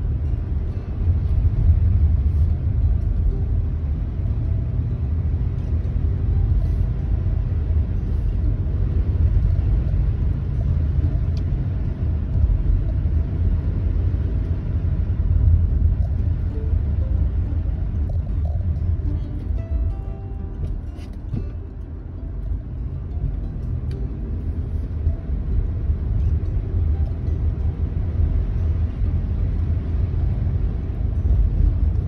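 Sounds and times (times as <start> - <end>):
car engine: 0.0 - 32.0
tyres on wet slushy road: 0.0 - 32.0.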